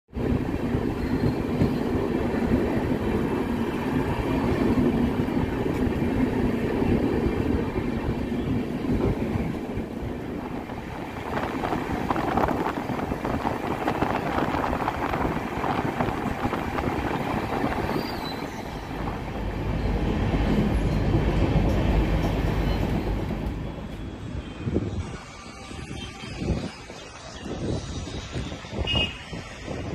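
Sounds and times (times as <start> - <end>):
train wheels rumbling: 0.1 - 29.9.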